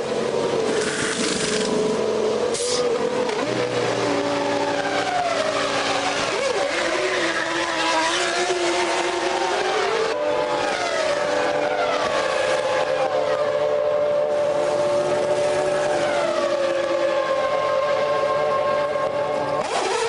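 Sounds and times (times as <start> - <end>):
racing car engine accelerating: 0.0 - 20.0
racing cars passing by: 0.0 - 20.0.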